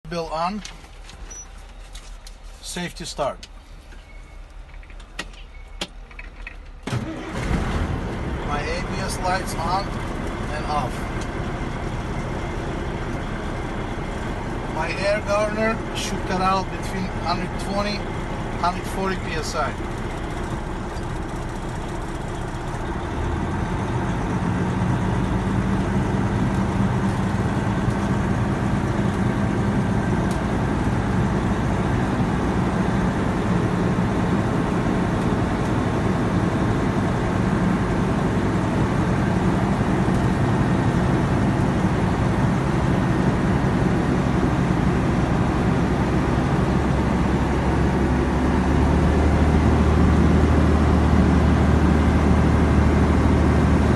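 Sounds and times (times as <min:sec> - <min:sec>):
truck diesel engine running: 0:00.0 - 0:53.9.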